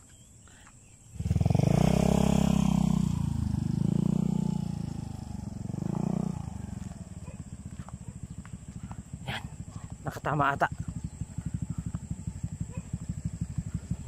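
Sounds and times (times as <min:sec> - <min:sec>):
small motorcycle engine revving: 0:01.1 - 0:14.0.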